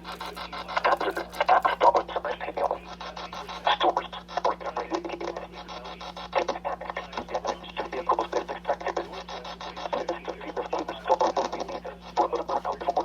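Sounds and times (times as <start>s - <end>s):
rapid crackle of clicks: 0.0s - 13.0s
steady low hum: 0.0s - 13.0s.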